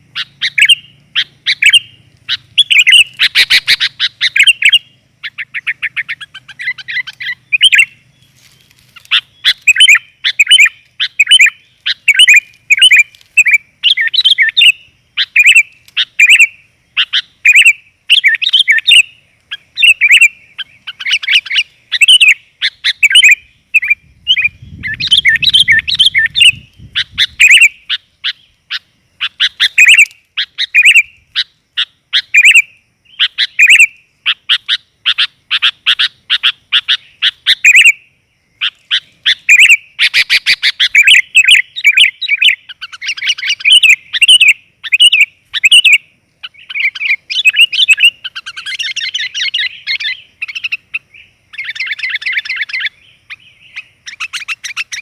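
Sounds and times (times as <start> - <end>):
bird chirping sharply: 0.0 - 55.0.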